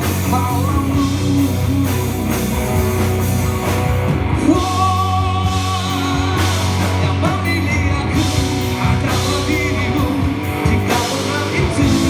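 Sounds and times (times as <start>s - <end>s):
live slow-rock band playing: 0.0s - 12.0s.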